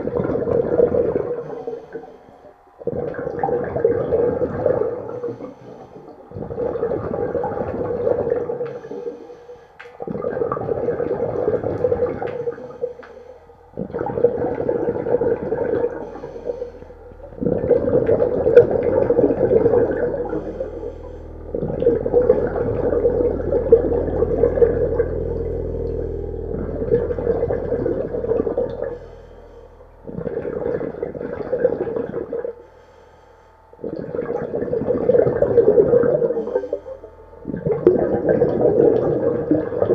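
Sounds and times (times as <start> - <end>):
air bubbling from scuba regulator: 0.0 - 32.7, 33.7 - 39.9.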